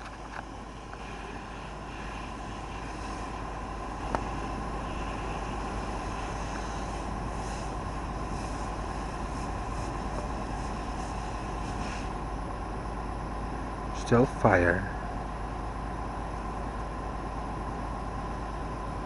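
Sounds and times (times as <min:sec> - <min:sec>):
fire engine engine drone: 0:00.0 - 0:19.0.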